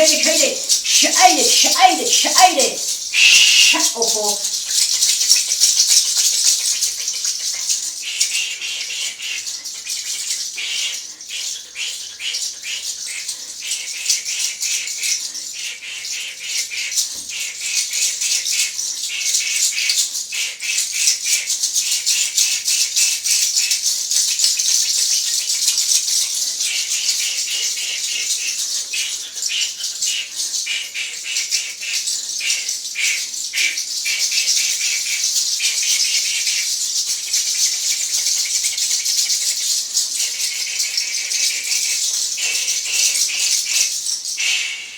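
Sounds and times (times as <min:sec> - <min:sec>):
hand rattle shaking: 0:00.0 - 0:44.9.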